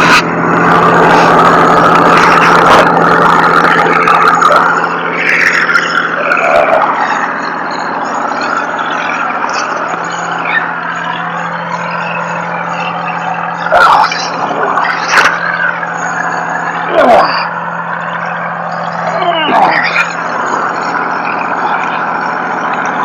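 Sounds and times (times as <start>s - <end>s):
tow truck engine humming: 0.0s - 23.0s
wavering high whine: 0.0s - 23.0s.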